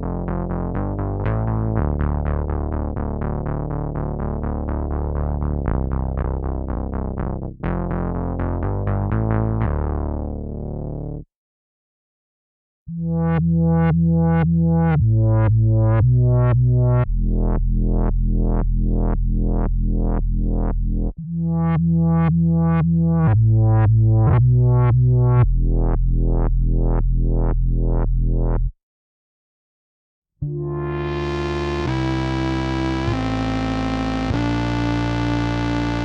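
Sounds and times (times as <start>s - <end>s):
synth bass notes with filter sweep: 0.0s - 11.2s, 12.9s - 28.8s, 30.4s - 36.0s.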